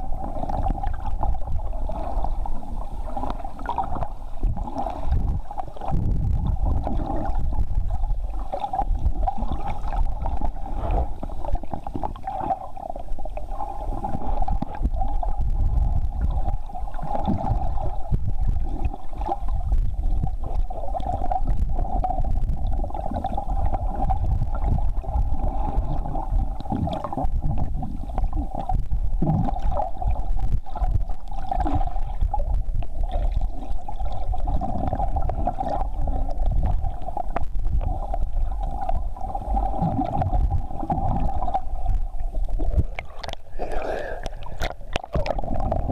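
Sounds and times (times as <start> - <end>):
water gurgling: 0.0 - 45.9.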